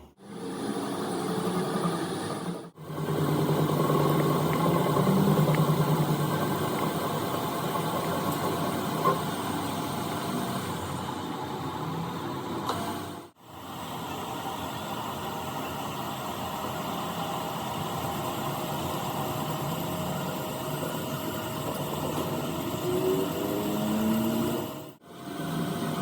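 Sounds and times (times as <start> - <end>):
machine humming: 0.0 - 13.2, 13.8 - 26.0.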